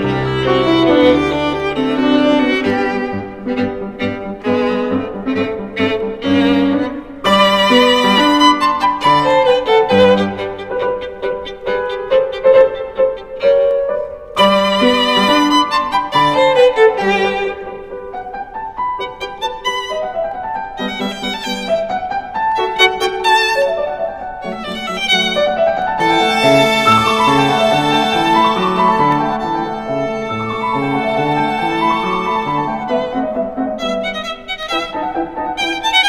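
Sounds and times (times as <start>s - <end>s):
piano accompaniment: 0.0s - 36.0s
violin music: 0.0s - 36.0s.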